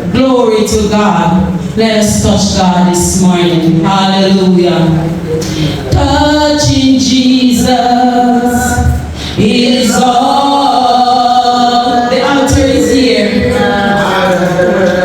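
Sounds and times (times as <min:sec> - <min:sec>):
congregation singing a worship song: 0:02.0 - 0:15.0.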